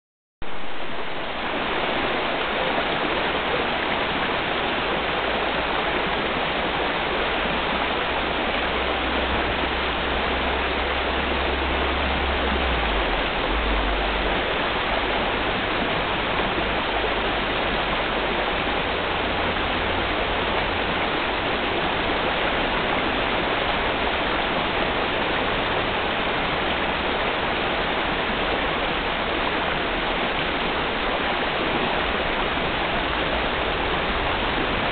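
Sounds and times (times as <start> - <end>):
river water rushing: 0.4 - 34.9.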